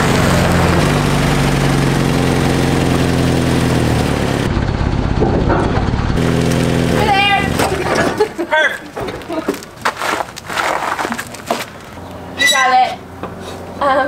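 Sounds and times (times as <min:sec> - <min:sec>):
truck engine running and idling: 0:00.0 - 0:12.2.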